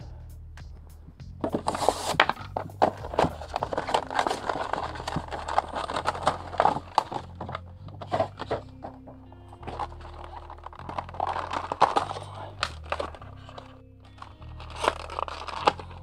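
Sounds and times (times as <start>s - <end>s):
plastic window crinkling: 1.4s - 16.0s.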